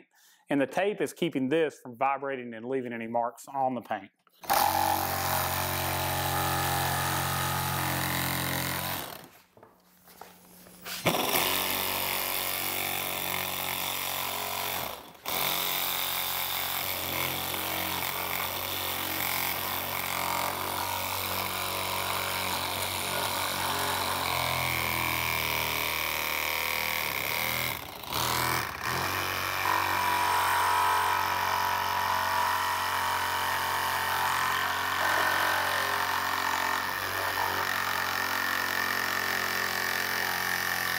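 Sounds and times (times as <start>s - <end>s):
reciprocating saw cutting plastic: 4.4s - 9.4s, 10.8s - 40.9s.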